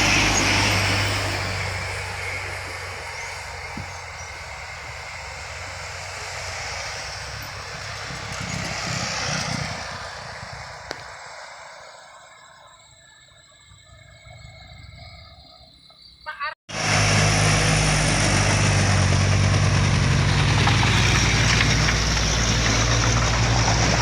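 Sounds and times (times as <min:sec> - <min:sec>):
heavy truck driving past: 0:00.0 - 0:12.8, 0:16.7 - 0:24.0.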